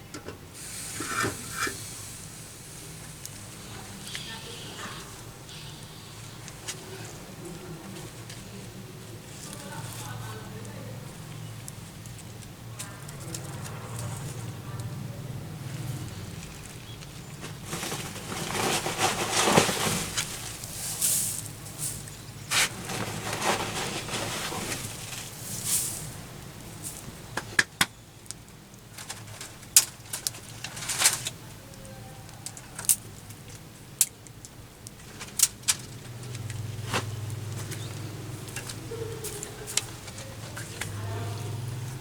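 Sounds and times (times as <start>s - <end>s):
rustling and scraping: 0.1s - 14.9s, 15.6s - 27.6s, 28.9s - 31.7s, 34.8s - 42.0s.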